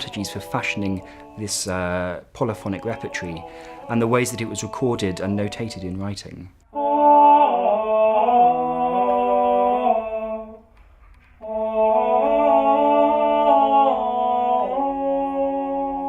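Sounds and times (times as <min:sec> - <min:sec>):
male choir singing a cappella: 0:00.0 - 0:06.1, 0:06.7 - 0:10.7, 0:11.4 - 0:16.0.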